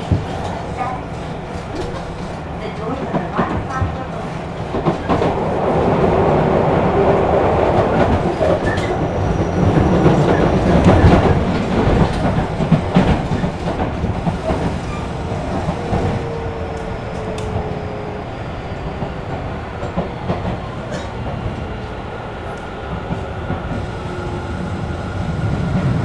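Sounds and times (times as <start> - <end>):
wheels clacking over rail joints: 0.0 - 21.9
electric train rumble: 0.0 - 26.0.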